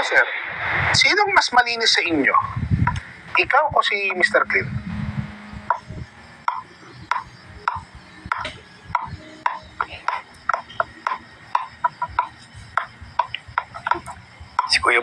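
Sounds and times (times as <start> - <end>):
light background music: 1.0 - 15.0.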